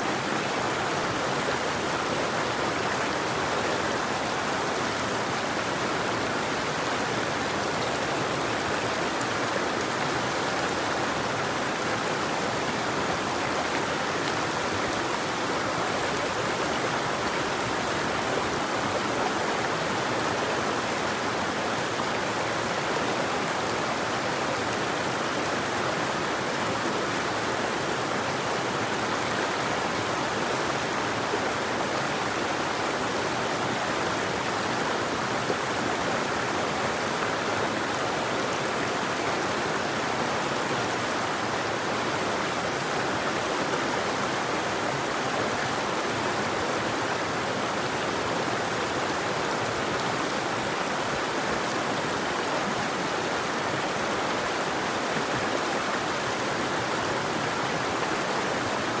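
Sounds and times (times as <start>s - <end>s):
flowing river: 0.0s - 59.0s.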